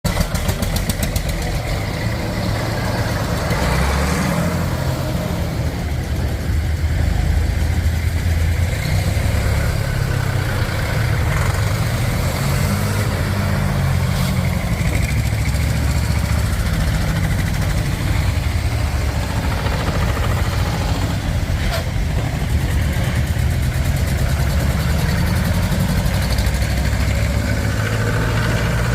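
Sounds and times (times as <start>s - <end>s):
tractor engines droning: 0.0s - 28.9s.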